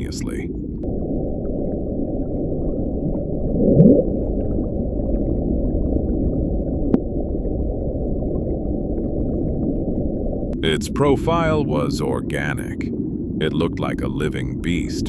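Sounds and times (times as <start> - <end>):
low rumbling hiss: 0.0 - 15.0.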